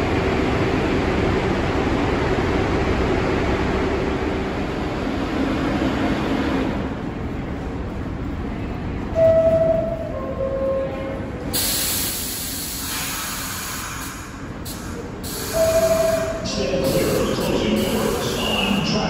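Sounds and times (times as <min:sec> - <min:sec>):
subway train humming: 0:00.0 - 0:19.0.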